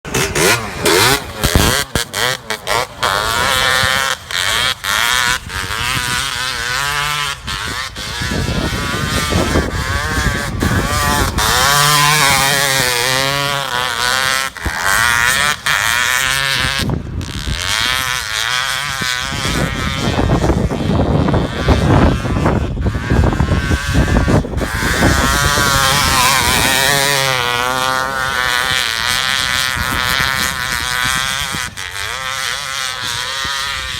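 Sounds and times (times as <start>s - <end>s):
dirt bike engine screaming: 0.1s - 33.9s.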